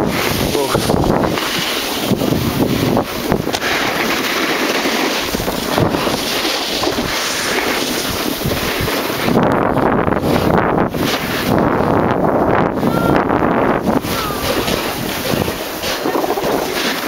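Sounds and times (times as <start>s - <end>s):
skis sliding over packed snow: 0.0s - 17.0s
wind buffeting microphone: 0.0s - 17.0s.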